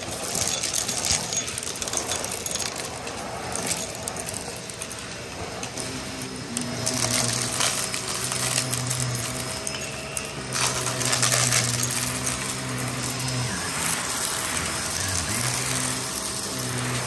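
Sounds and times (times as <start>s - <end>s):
vacuum cleaner motor humming: 0.0s - 17.0s.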